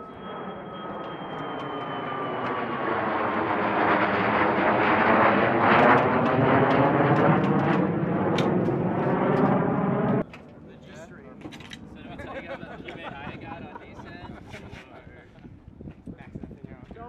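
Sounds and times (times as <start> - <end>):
jet aircraft passing: 0.0 - 14.2.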